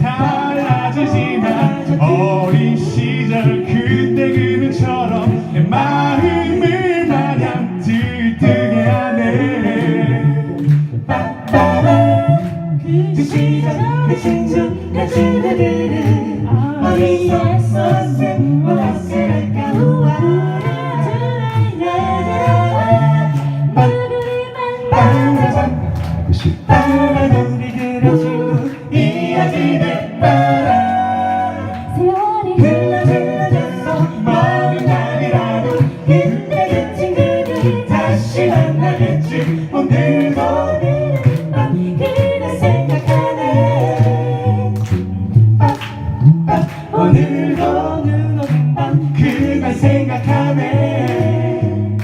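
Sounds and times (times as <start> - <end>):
vocal group singing in harmony: 0.0 - 52.0.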